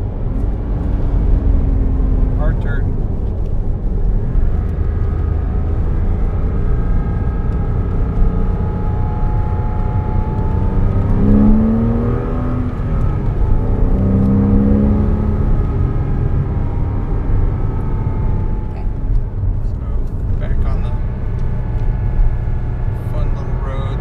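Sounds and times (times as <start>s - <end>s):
car engine accelerating: 0.0s - 24.0s
road rumble: 0.0s - 24.0s.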